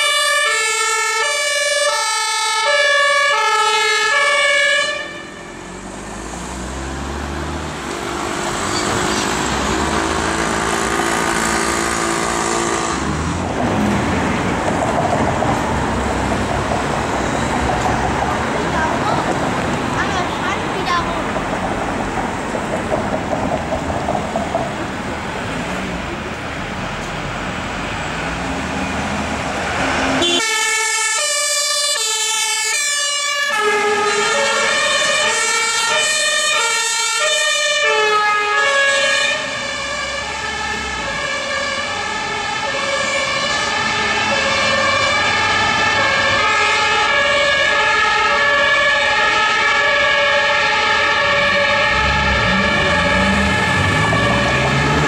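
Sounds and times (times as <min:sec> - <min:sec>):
two-tone fire sirens: 0:00.0 - 0:21.0, 0:27.9 - 0:55.0
traffic and engine noise: 0:00.0 - 0:55.0.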